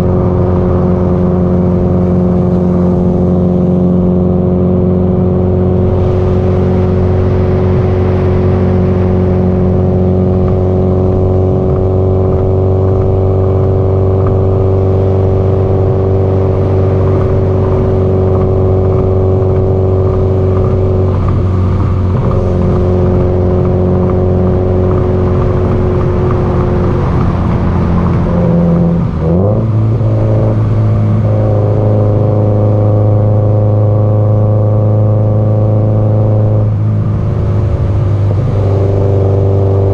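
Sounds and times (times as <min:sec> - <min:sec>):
car engine running while driving: 0:00.0 - 0:39.9.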